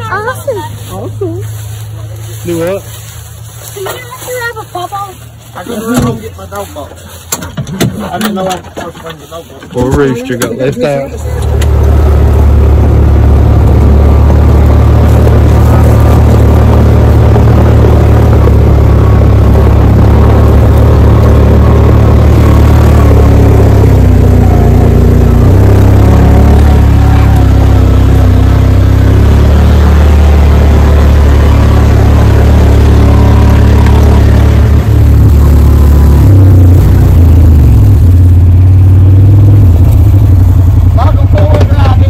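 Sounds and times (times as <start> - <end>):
utv engine droning: 0.0 - 42.0.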